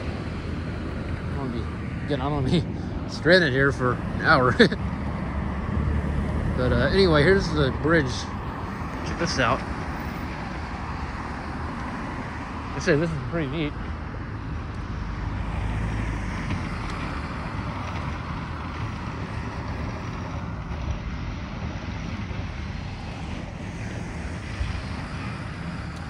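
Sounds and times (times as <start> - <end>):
road traffic rush: 0.0 - 26.0.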